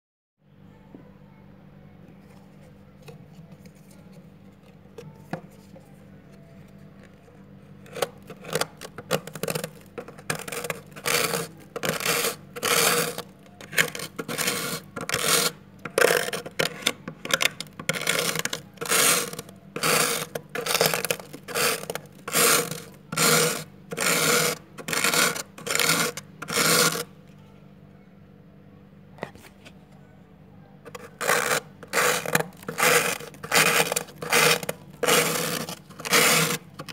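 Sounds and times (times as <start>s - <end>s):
plastic card scraping frost: 2.3s - 27.1s, 30.8s - 36.9s.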